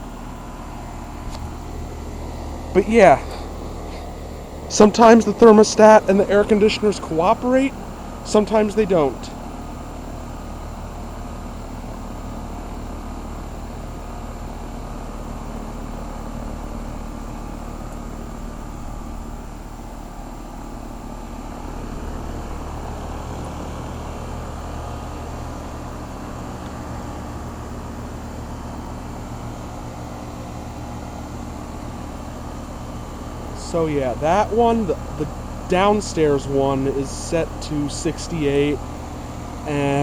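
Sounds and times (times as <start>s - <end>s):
low compressor hum: 0.0s - 40.0s
rush of condenser fans: 0.0s - 40.0s.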